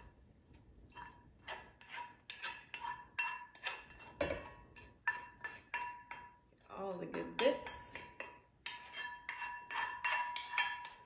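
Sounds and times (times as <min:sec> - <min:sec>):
spoon scraping metal pan: 0:00.9 - 0:11.0.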